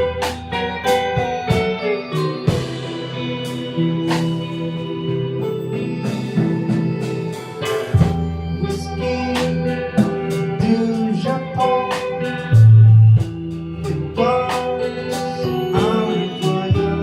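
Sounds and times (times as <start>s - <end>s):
drums with cymbal strokes: 0.0s - 17.0s
electric guitar: 0.0s - 17.0s
organ-like keyboards: 0.0s - 17.0s.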